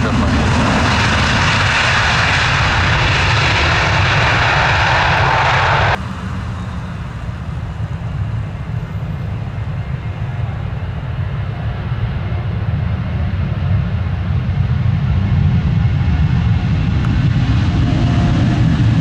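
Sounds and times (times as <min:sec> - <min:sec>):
distant jet engine rumble: 0:00.0 - 0:19.0.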